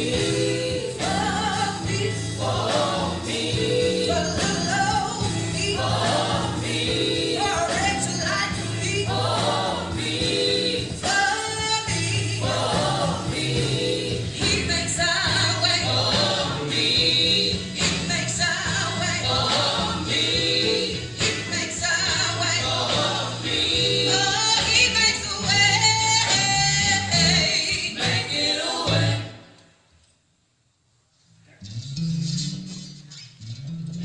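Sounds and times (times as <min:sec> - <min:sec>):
instrumental accompaniment with bass: 0:00.0 - 0:29.4, 0:31.6 - 0:34.0
gospel group singing in harmony: 0:00.0 - 0:29.7.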